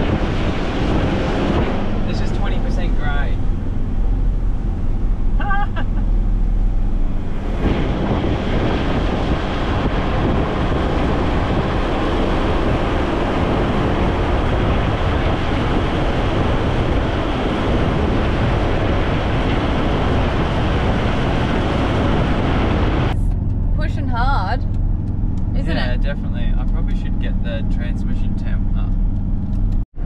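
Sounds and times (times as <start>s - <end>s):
wind buffeting microphone: 0.0s - 29.8s
vehicle road and engine noise: 0.0s - 30.0s.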